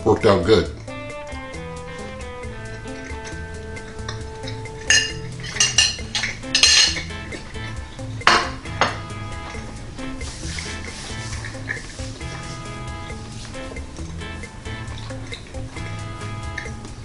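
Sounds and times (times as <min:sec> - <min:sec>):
background music: 0:00.0 - 0:17.0
fork and plate clinking: 0:02.0 - 0:16.9.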